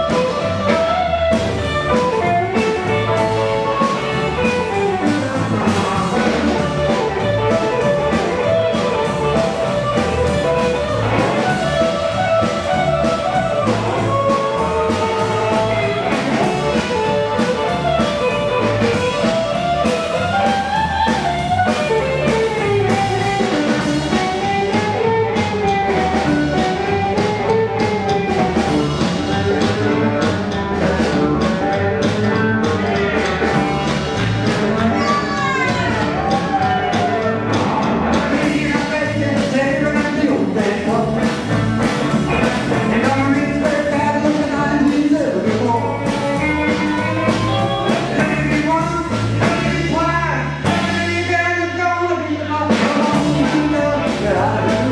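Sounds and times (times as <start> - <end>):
steady drum beat: 0.0 - 51.3, 52.7 - 54.9
guitar lead: 0.0 - 54.9.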